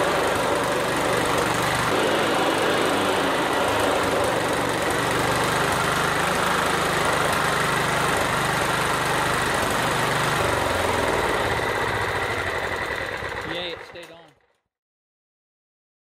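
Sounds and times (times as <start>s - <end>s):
riding mower engine running: 0.0s - 14.6s.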